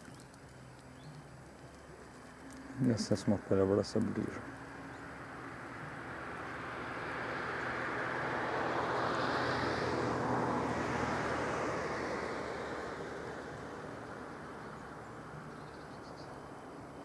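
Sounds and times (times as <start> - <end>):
low hum: 0.0 - 17.0
vehicle passing: 2.0 - 17.0.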